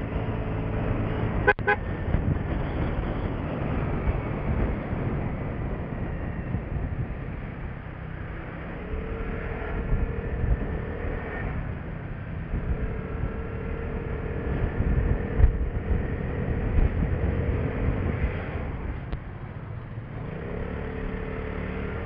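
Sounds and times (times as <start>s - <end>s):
wind buffeting microphone: 0.0s - 19.4s.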